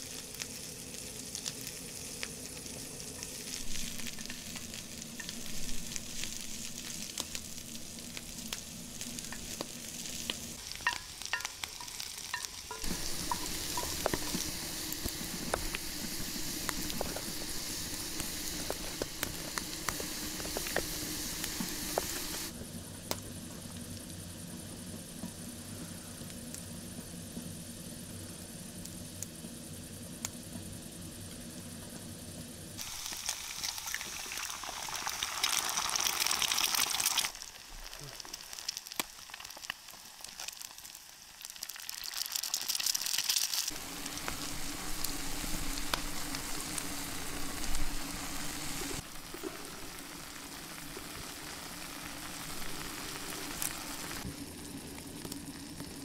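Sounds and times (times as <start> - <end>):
eggs sizzling in skillet: 0.0 - 22.7, 32.8 - 56.0.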